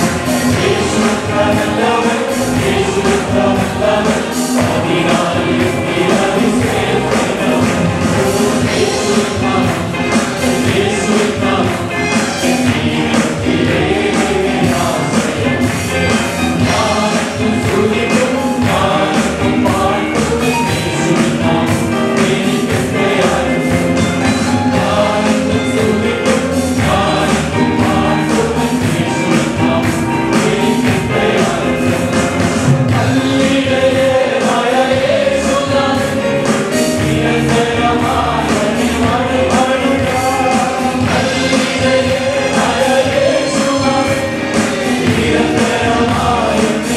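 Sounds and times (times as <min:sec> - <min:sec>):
congregation singing: 0:00.0 - 0:46.9
musical accompaniment: 0:00.0 - 0:46.9
steady percussive beat: 0:00.0 - 0:46.9.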